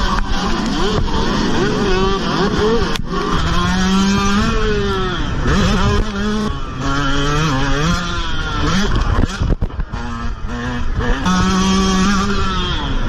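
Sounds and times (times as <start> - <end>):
motocross bike accelerating: 0.0 - 13.0
other race bikes running: 0.0 - 13.0.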